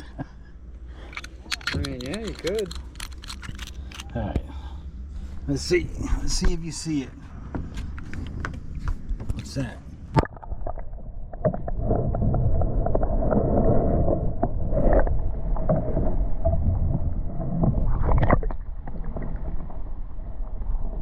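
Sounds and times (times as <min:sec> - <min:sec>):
muffled underwater sloshing: 0:00.0 - 0:21.0.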